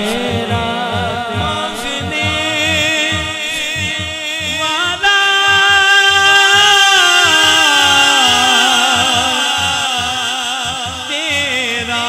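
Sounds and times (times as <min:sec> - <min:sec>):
low rhythmic pulse: 0:00.0 - 0:12.0
man singing through a microphone: 0:00.0 - 0:12.0.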